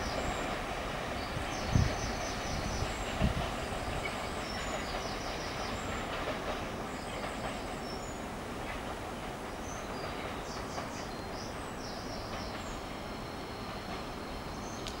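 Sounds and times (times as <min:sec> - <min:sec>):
distant train rumble: 0:00.0 - 0:15.0.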